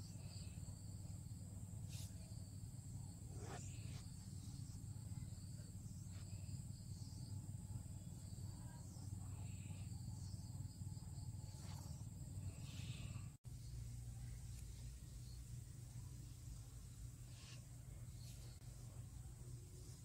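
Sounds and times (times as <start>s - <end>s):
insects trilling: 0.0s - 20.0s
low steady rumble: 0.0s - 20.0s.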